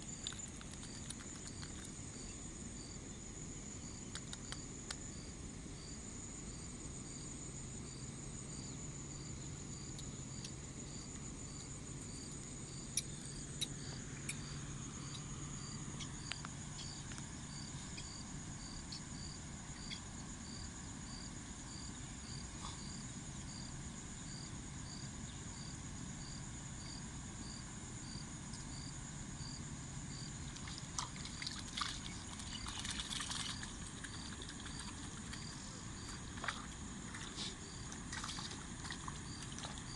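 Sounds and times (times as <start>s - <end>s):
insects chirping: 0.0s - 39.9s
rustle: 0.0s - 39.9s.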